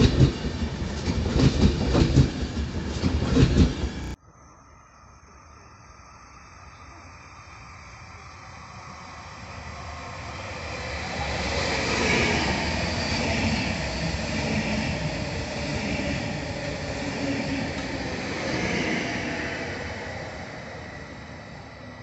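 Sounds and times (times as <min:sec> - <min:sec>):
electric train running past: 0:00.0 - 0:22.0.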